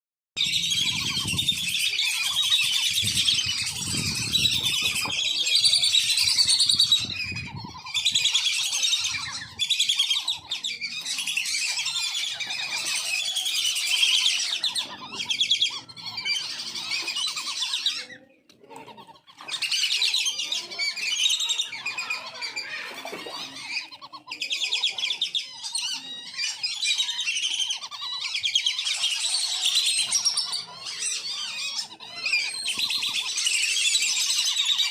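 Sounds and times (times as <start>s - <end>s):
ducks whistling calls: 0.4s - 34.9s.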